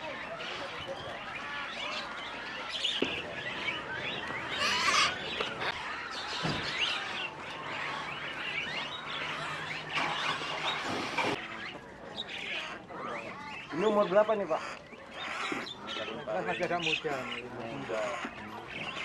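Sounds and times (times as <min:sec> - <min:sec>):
songbirds chirping and calling: 0:00.0 - 0:19.0.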